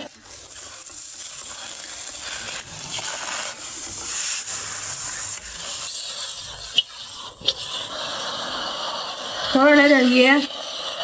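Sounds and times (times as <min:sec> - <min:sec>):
oil sizzling: 0:00.0 - 0:11.0
spatula scraping a wok: 0:00.0 - 0:11.0.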